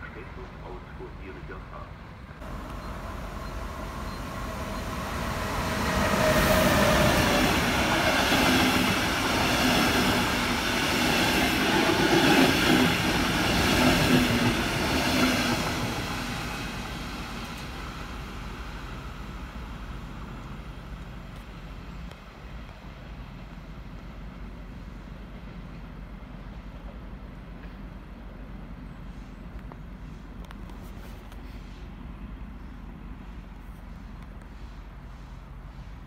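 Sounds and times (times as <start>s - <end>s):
train passing at speed: 0.0s - 30.7s.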